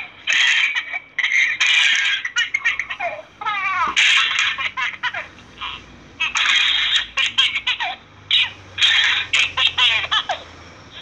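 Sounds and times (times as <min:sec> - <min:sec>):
baby giggling: 0:00.0 - 0:10.5.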